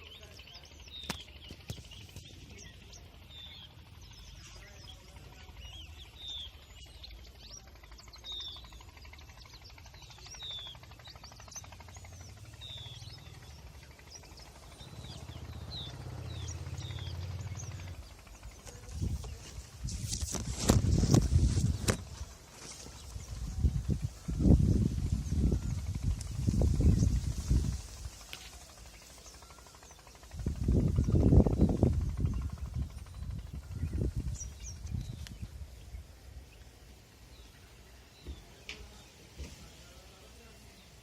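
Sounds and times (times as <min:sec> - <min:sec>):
birds chirping: 0:00.0 - 0:41.0
low steady rumble: 0:00.0 - 0:41.0.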